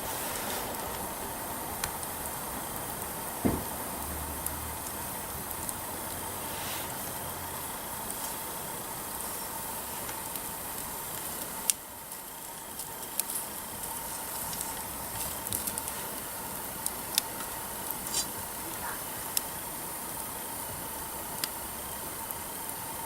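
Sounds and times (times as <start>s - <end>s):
campfire crackling and popping: 0.0s - 23.0s
steady background hiss: 0.0s - 23.0s.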